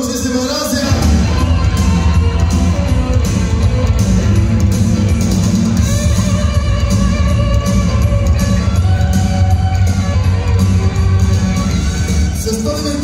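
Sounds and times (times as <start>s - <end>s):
loud music with bass and guitar: 0.0s - 13.0s.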